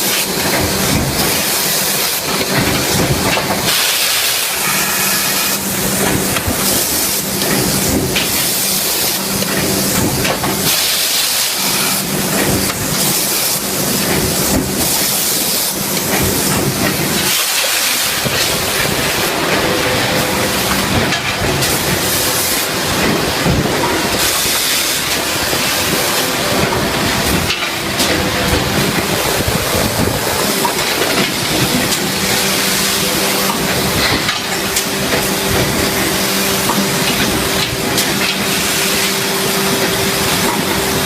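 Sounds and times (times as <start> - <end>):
low machinery hum: 0.0 - 41.0
machinery hissing: 0.0 - 41.0.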